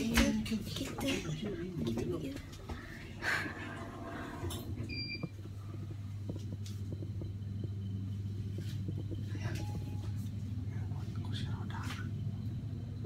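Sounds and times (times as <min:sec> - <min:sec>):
lift car hum and rumble: 0:00.0 - 0:13.0.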